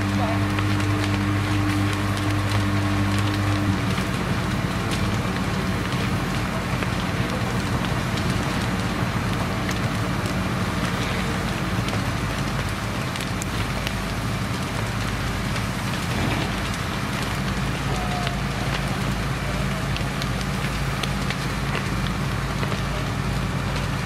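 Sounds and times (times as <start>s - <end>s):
burning barn crackling and popping: 0.0s - 24.0s
engine humming: 0.0s - 24.0s.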